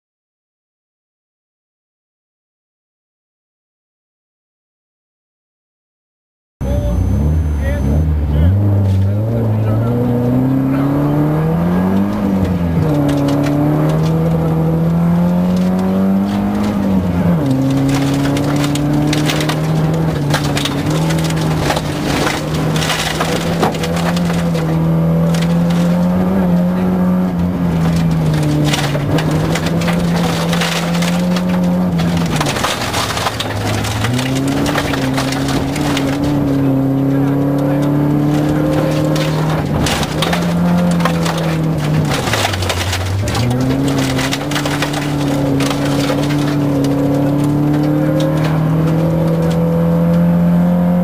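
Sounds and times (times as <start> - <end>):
car engine accelerating: 6.6 - 51.0
gravel clattering against car: 8.8 - 51.0.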